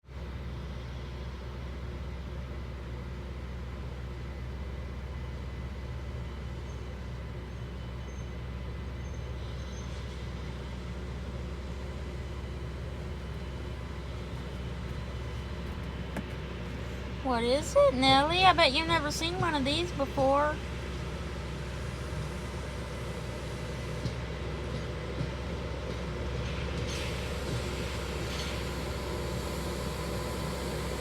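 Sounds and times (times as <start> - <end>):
diesel train drone: 0.0 - 31.0.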